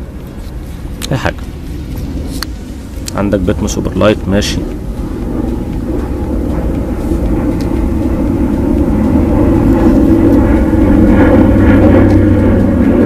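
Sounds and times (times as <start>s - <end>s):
aircraft engine drone overhead: 0.0s - 13.0s.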